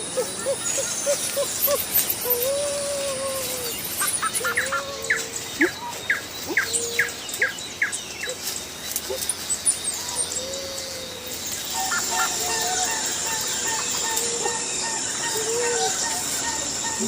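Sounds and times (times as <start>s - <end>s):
bird calls: 0.0s - 17.0s
steady high hiss: 0.0s - 17.0s.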